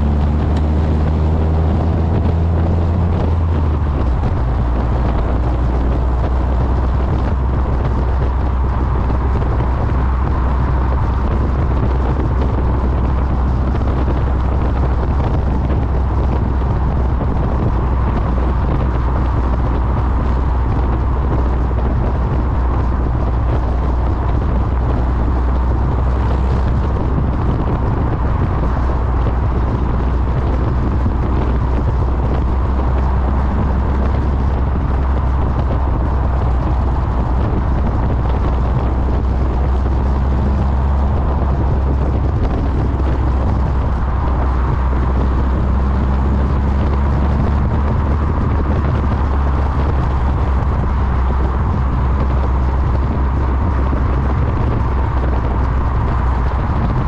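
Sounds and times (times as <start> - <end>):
car engine droning: 0.0 - 57.0
wind noise on microphone: 0.0 - 57.0.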